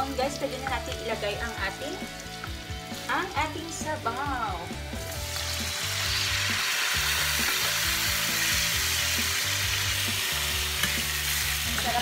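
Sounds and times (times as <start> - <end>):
broth sizzling in hot pan: 0.0 - 12.0.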